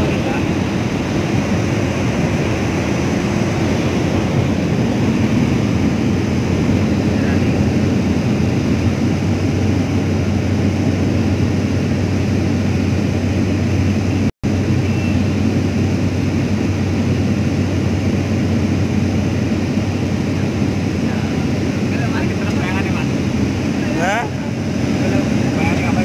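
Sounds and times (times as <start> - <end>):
turboprop engine droning in cabin: 0.0 - 26.0.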